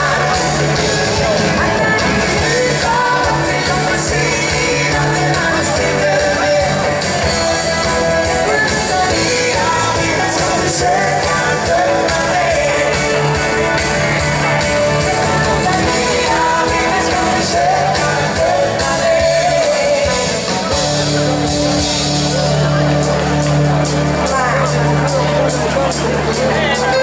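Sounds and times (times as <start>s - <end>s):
live rock and roll band: 0.0s - 27.0s
person singing: 0.0s - 27.0s.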